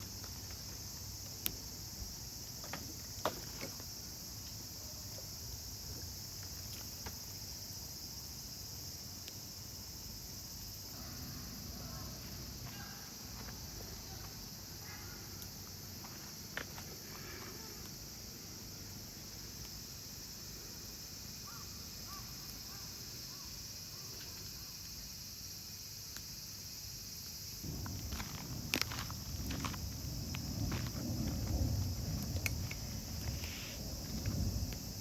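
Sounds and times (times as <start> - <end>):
insects chorus: 0.0 - 35.0.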